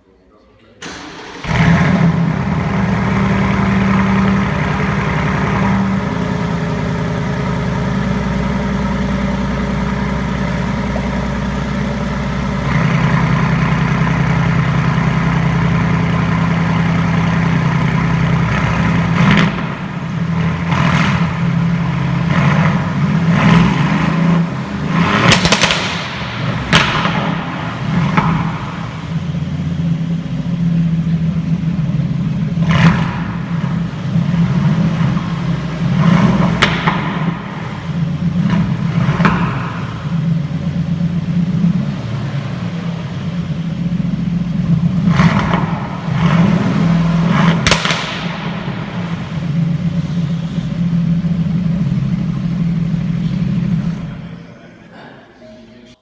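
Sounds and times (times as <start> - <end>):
car engine starting and idling: 0.7 - 55.0
exhaust pops and crackles: 0.8 - 54.4
engine revving in short blips: 0.8 - 54.5.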